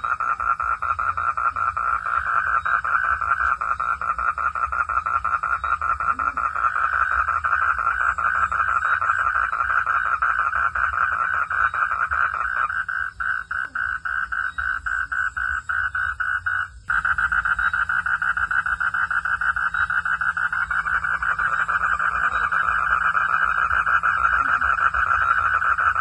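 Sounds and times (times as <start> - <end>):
frogs calling in pulses: 0.0 - 26.0
low steady rumble: 0.0 - 26.0.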